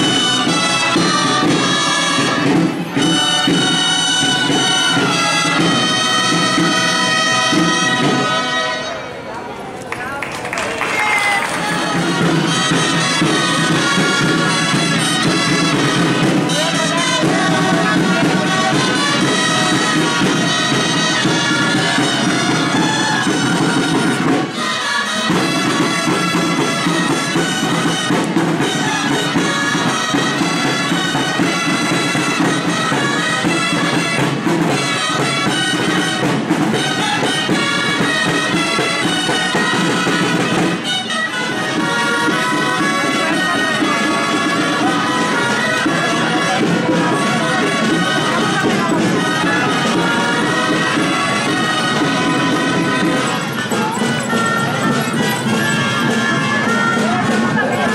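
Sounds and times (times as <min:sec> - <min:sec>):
drums: 0:00.0 - 0:09.2, 0:10.4 - 0:57.9
shrill shawms playing: 0:00.0 - 0:09.3, 0:10.8 - 0:57.9.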